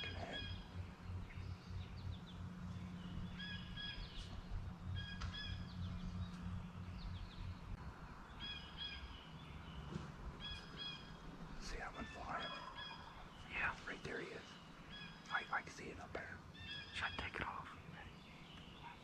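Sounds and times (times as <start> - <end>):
low steady rumble: 0.0 - 19.0
songbirds singing: 0.0 - 19.0.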